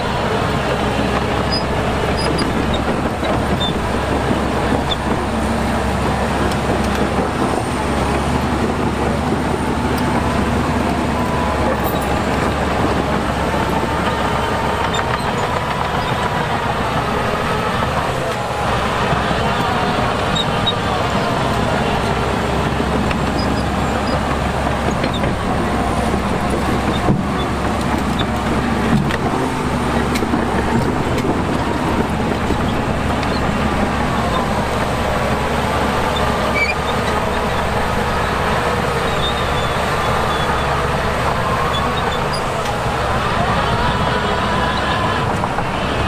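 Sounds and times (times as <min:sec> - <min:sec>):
heavy machinery diesel engines: 0:00.0 - 0:46.0.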